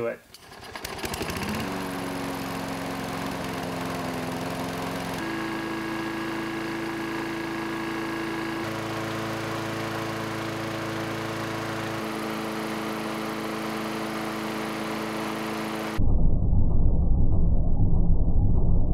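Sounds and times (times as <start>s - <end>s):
lawn mower engine running: 0.3s - 16.0s.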